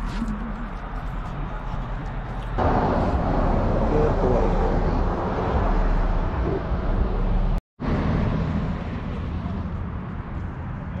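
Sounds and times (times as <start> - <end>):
vehicle road and wind noise: 0.0 - 11.0.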